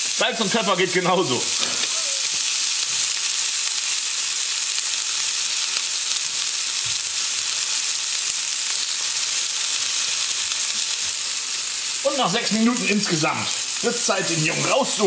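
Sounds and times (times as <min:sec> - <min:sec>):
burger patty sizzling in pan: 0:00.0 - 0:15.0.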